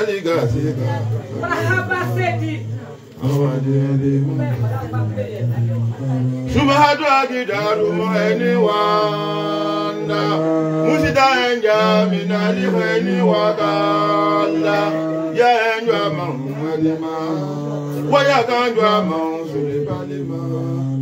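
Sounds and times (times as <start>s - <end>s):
men chanting through microphones: 0.0s - 21.0s.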